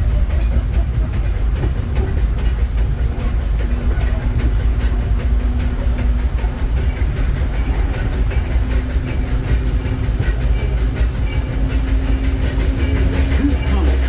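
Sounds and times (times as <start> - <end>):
constant low hum: 0.0 - 14.0
train rumble on board: 0.0 - 14.0
wheels clicking over rails: 0.0 - 14.0.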